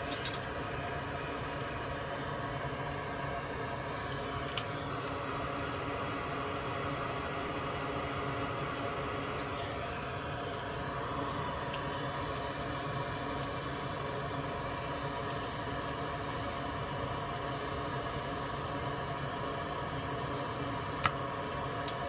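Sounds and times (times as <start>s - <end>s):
fan whirring: 0.0s - 22.0s.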